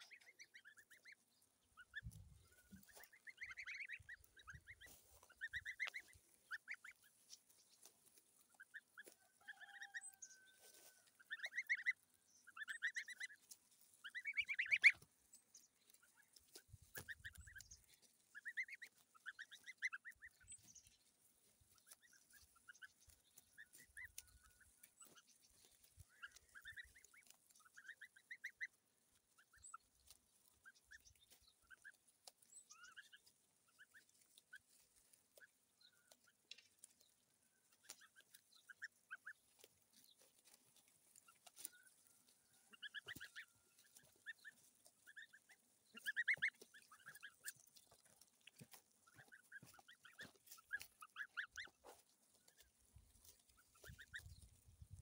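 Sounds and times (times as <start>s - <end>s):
goslings peeping: 0.0s - 55.0s.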